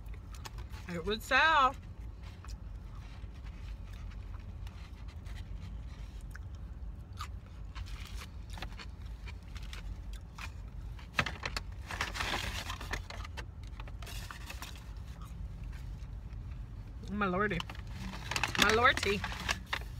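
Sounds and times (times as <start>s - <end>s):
chewing and crunching food: 0.0s - 0.9s, 1.7s - 19.9s.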